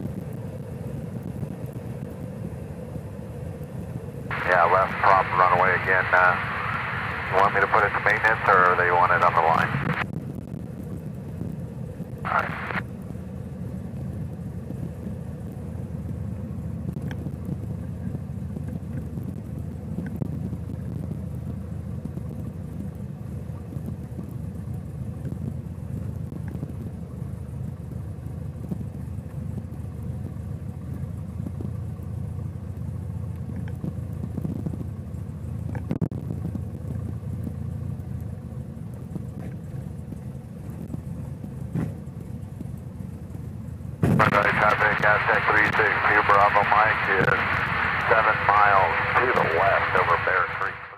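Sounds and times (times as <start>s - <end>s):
light aircraft engine running: 0.0s - 50.9s.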